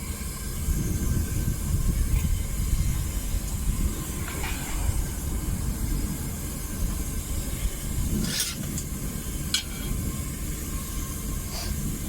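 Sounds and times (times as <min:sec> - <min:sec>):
propane burner rumbling and hissing: 0:00.0 - 0:12.0.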